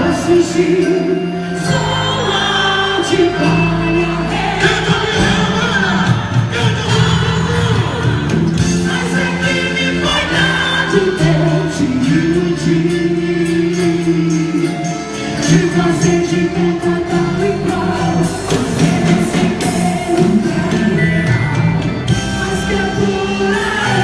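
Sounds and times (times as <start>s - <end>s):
voices singing over instruments: 0.0s - 24.0s.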